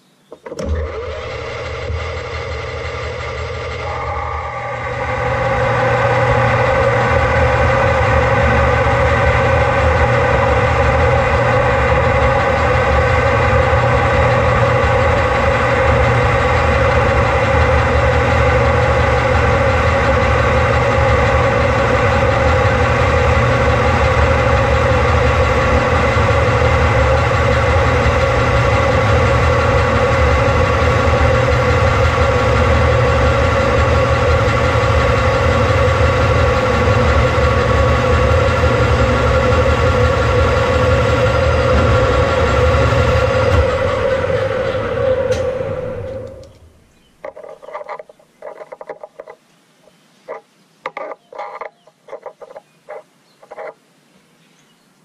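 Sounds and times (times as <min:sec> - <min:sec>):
metal lathe running: 0:00.6 - 0:46.7.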